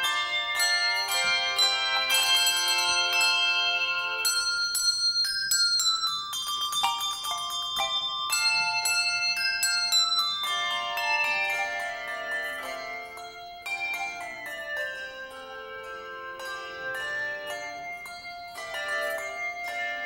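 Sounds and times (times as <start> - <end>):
handbell choir playing: 0.0 - 20.0.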